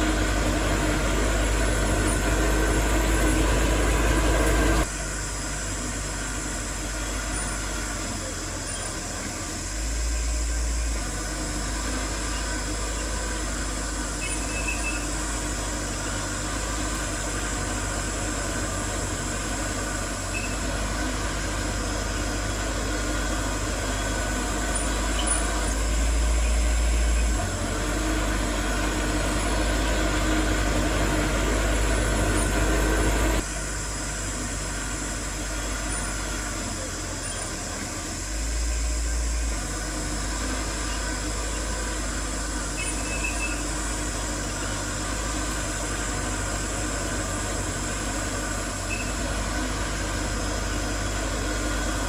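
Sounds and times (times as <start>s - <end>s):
diesel machinery engine drone: 0.0s - 52.0s.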